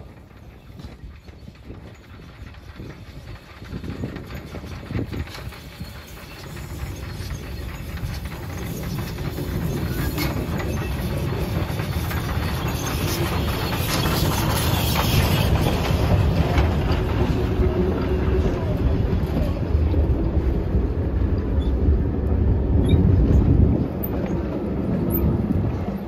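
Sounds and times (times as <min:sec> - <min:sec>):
train wheels rumbling on rails: 0:00.0 - 0:26.0
wheels clicking over rail joints: 0:00.0 - 0:26.0.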